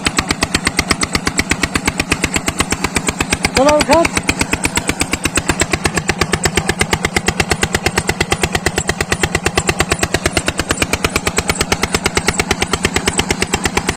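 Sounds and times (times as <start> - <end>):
diesel engine chugging: 0.0 - 13.9.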